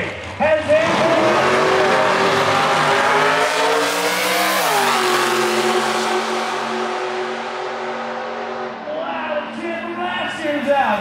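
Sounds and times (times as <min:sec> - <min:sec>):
race car engine at full throttle: 0:00.0 - 0:10.7.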